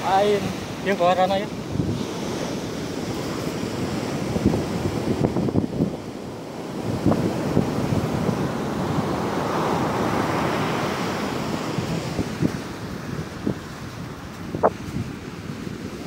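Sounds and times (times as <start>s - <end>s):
sea surf breaking on beach: 0.0s - 16.0s
wind buffeting microphone: 0.0s - 16.0s.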